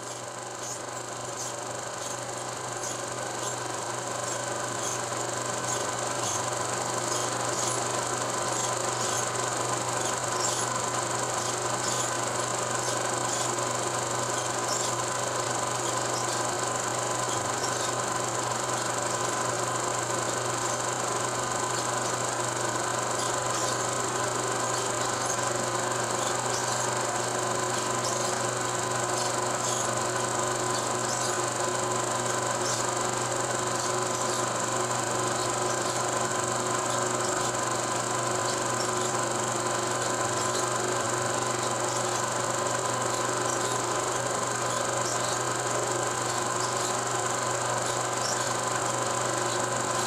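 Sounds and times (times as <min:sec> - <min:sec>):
steady hum and hiss: 0:00.0 - 0:50.0.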